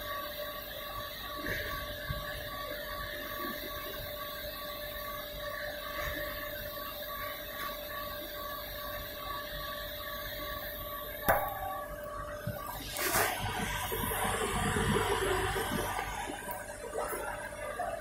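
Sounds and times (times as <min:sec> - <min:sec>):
cotton candy machine humming: 0:00.0 - 0:18.0.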